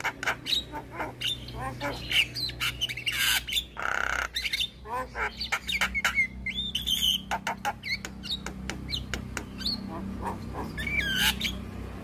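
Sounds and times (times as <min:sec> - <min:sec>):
bird calling with clicks and whistles: 0:00.0 - 0:11.6
low steady hum: 0:00.0 - 0:12.0.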